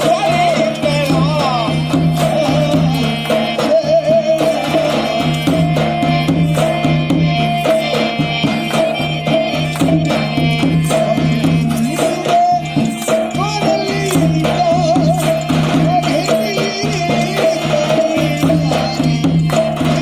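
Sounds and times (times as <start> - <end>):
hand drums: 0.0 - 20.0
jingling frame drum: 0.0 - 20.0
ornamented folk melody: 0.0 - 20.0.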